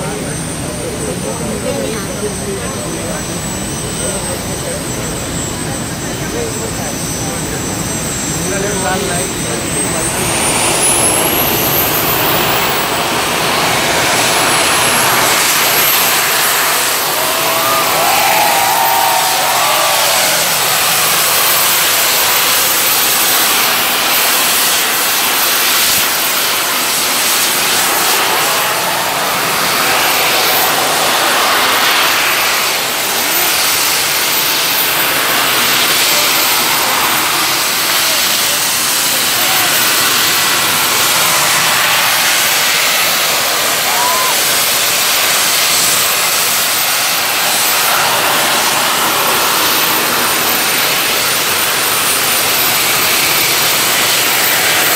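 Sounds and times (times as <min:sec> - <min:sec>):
small jet engines rushing: 0:00.0 - 0:54.9.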